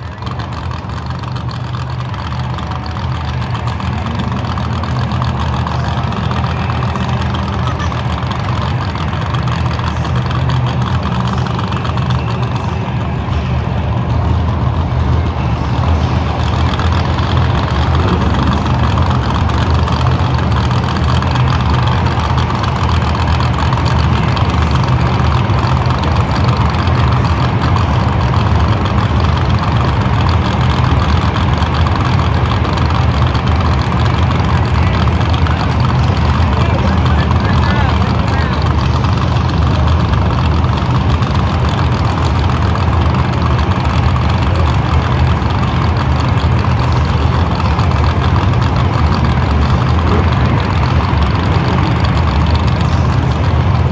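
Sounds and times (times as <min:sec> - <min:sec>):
monster truck engines idling: 0:00.0 - 0:53.9.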